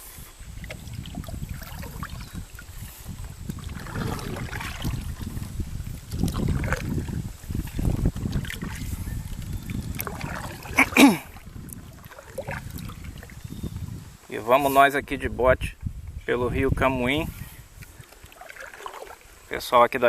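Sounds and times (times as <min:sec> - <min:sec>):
rumbling water: 0:00.0 - 0:15.4, 0:16.5 - 0:20.0
wind noise: 0:00.0 - 0:18.5.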